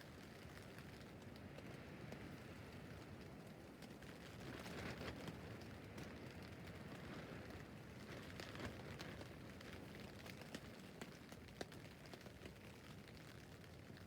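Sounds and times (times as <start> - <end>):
rain pattering on a tent: 0.0 - 14.0.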